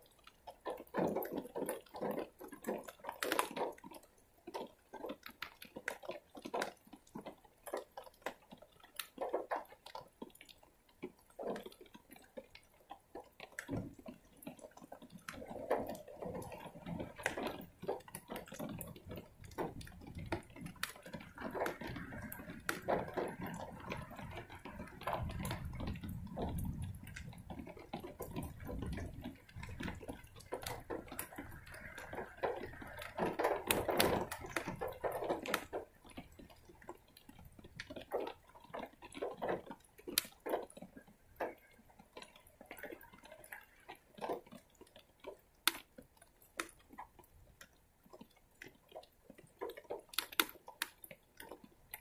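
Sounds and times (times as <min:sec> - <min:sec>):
rain dripping and splashing: 0:00.0 - 0:52.0.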